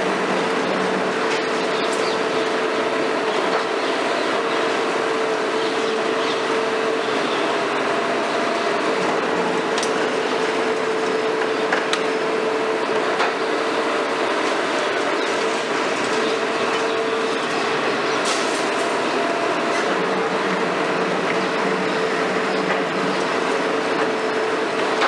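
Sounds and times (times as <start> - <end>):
excavator droning with whine: 0.0 - 25.0.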